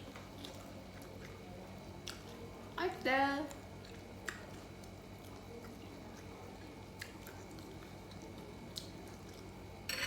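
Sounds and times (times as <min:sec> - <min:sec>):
soft chewing of food: 0:00.0 - 0:09.8
steady low hum: 0:00.0 - 0:10.0.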